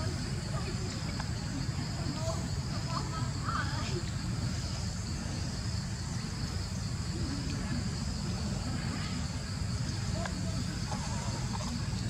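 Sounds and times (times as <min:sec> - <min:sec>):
high-pitched insect droning: 0:00.0 - 0:12.0.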